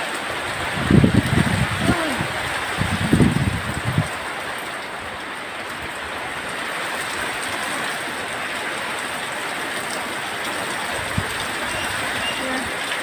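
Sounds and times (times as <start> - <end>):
heavy rain in wind: 0.0 - 13.0.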